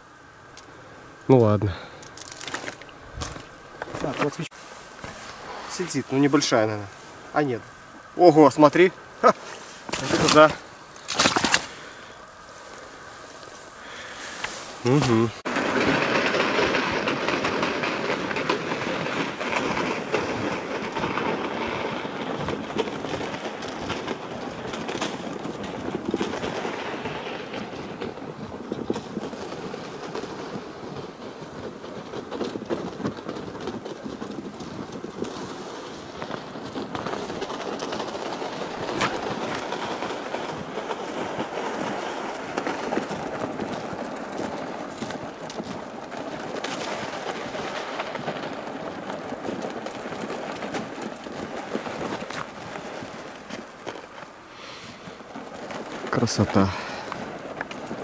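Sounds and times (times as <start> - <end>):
ice ticking: 1.3 - 12.2, 13.8 - 58.0
footsteps crunching on crusted snow: 1.6 - 58.0.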